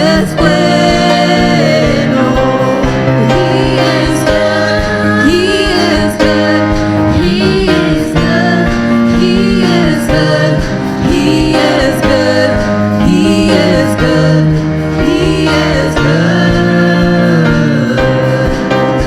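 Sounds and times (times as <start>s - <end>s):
worship band with singer: 0.0s - 19.0s.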